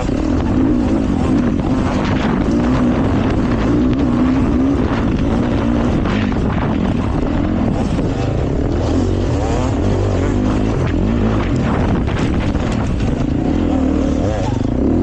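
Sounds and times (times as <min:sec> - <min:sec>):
dirt bike engine revving: 0:00.0 - 0:15.0
wind noise on microphone: 0:00.0 - 0:15.0.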